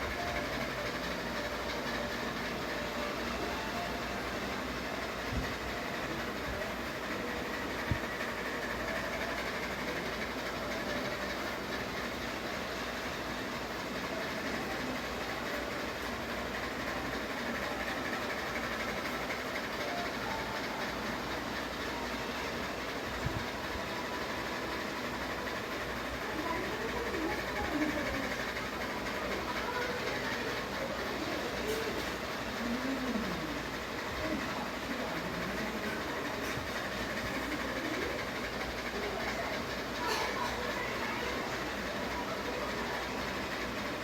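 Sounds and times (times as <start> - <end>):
ceiling fan running: 0.0 - 44.0.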